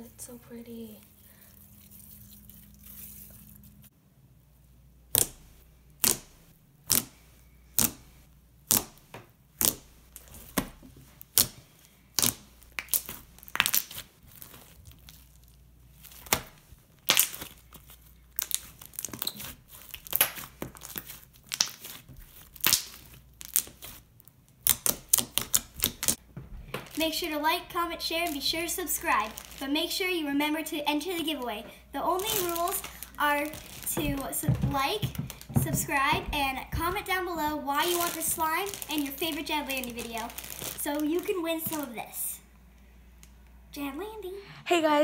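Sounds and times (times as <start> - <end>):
slime popping and crackling: 5.1 - 42.2.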